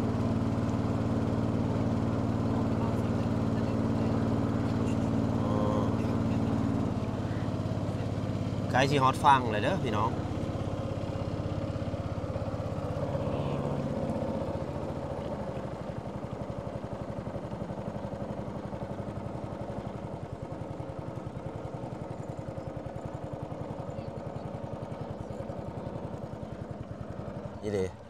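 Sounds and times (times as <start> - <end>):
boat motor chugging: 0.0 - 28.0.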